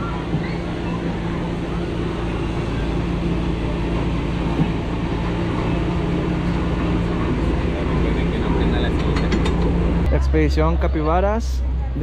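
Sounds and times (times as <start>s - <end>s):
chairlift machinery humming: 0.0s - 11.3s.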